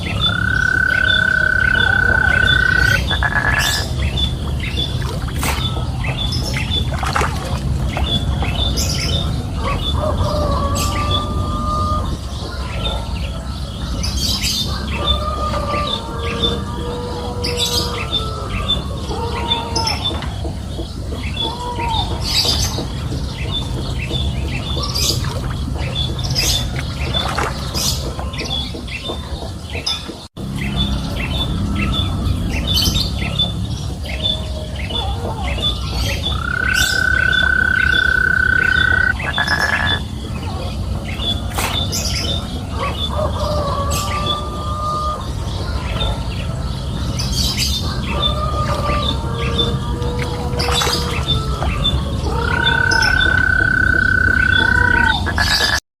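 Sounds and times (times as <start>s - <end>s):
birds chirping and squawking: 0.0s - 55.8s
longer bird calls: 0.0s - 55.8s.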